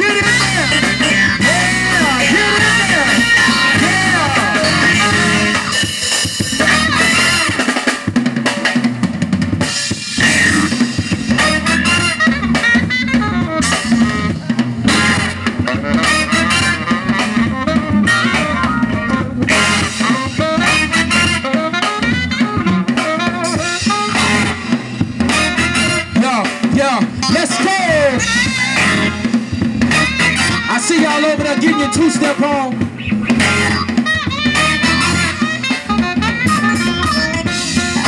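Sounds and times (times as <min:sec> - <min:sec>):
live band playing: 0:00.0 - 0:38.0
snare and bass drum beat: 0:00.0 - 0:38.0.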